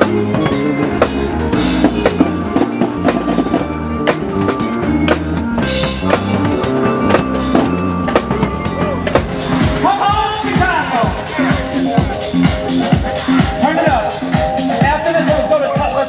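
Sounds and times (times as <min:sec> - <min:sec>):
sustained low bass notes: 0:00.0 - 0:13.6
loud parade music: 0:00.0 - 0:16.0.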